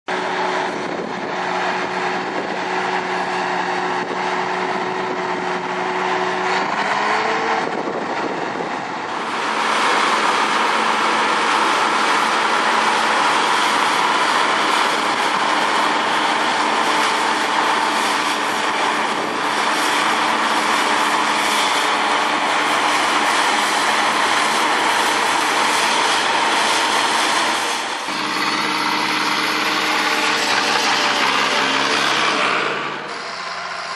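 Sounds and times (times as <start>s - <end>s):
different engine running: 0.1s - 33.9s
engine humming: 0.1s - 33.9s
loud noisy machine running: 0.1s - 33.9s.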